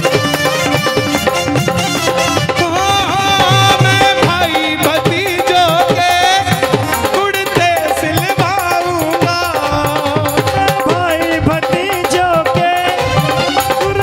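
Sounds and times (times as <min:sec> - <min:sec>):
devotional instrumental music: 0:00.0 - 0:14.0
hand drum percussion: 0:00.0 - 0:14.0.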